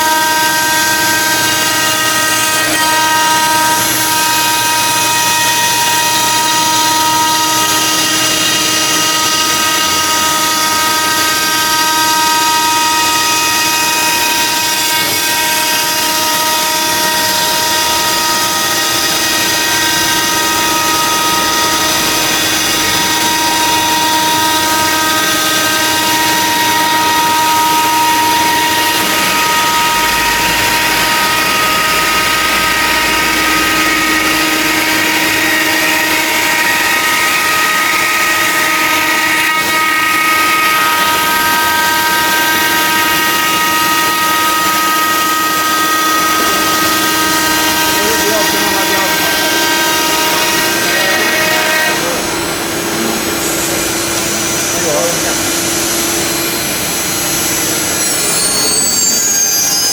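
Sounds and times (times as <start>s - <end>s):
router spindle whine: 0.0s - 59.9s.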